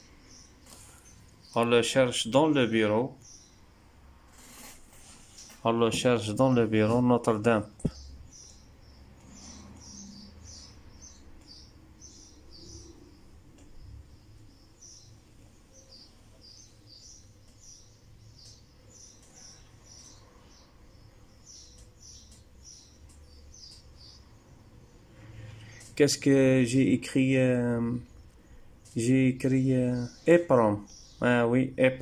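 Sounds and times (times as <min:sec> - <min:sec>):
birds chirping: 0:00.0 - 0:04.1, 0:04.9 - 0:32.0.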